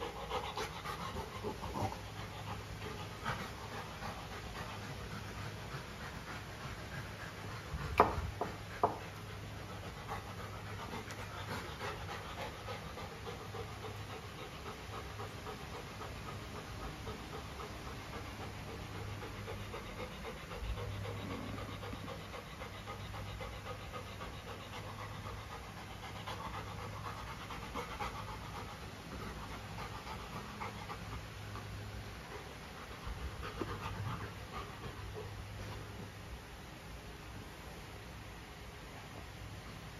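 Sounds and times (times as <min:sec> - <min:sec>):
dog panting: 0:00.0 - 0:36.3.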